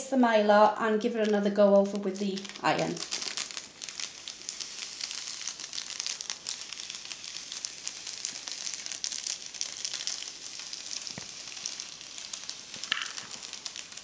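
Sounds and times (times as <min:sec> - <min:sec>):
plastic film crinkling as peeled: 0:01.0 - 0:14.0.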